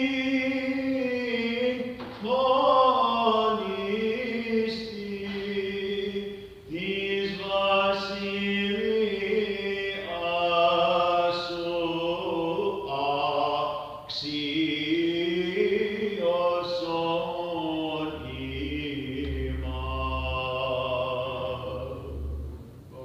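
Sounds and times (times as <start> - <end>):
unaccompanied voices chanting: 0.0 - 23.0.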